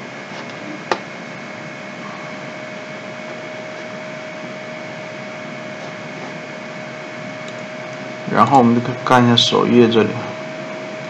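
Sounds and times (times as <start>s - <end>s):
room and microphone hiss: 0.0s - 11.0s
faint steady tone: 1.4s - 11.0s.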